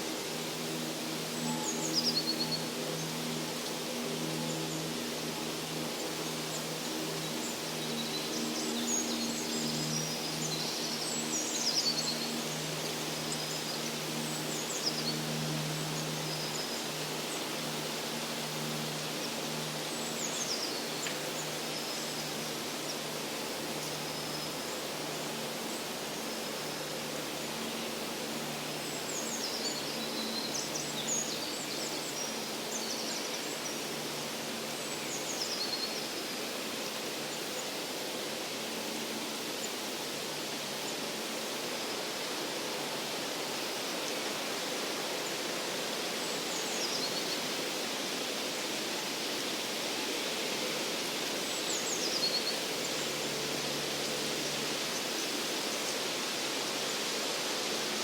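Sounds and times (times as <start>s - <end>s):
steady rushing forest background: 0.0s - 58.0s.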